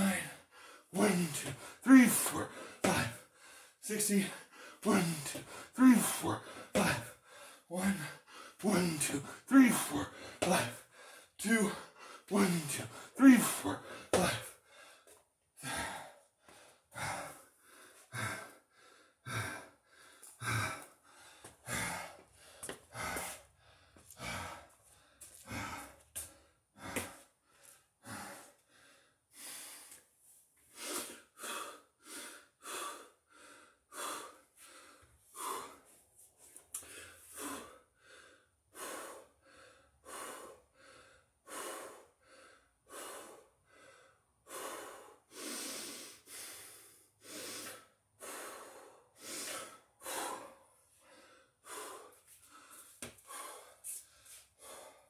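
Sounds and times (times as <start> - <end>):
man breathing hard: 0.0 - 55.0.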